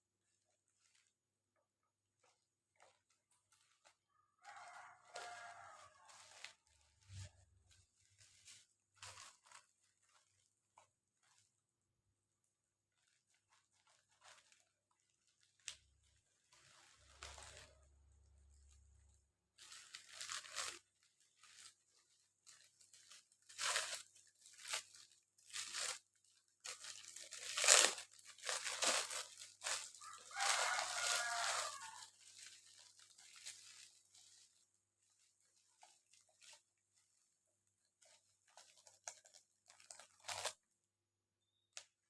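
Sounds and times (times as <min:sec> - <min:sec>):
plastic packaging crinkling: 0:00.2 - 0:40.8.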